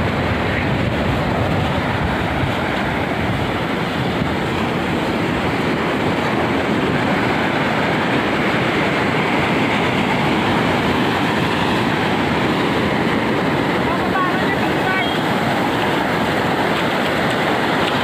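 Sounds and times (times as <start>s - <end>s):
sea surf breaking on shore: 0.0s - 18.0s.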